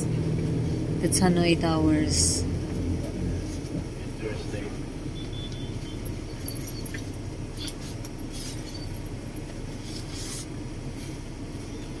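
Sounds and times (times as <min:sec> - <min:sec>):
street traffic: 0:00.0 - 0:12.0
vehicle rumble: 0:00.0 - 0:12.0.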